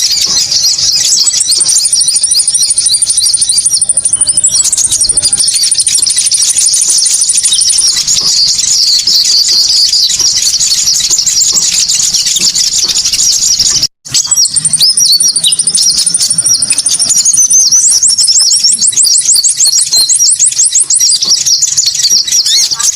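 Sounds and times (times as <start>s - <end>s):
birds chirping chorus with trills: 0.0s - 22.9s.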